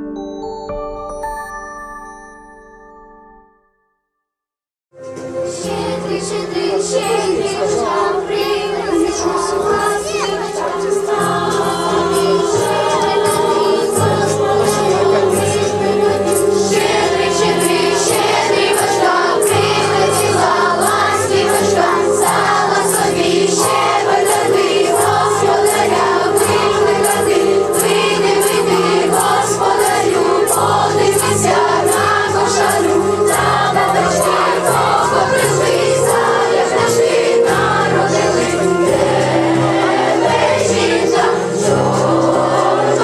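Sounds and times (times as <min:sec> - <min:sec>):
choir singing with instruments: 0:05.1 - 0:43.0.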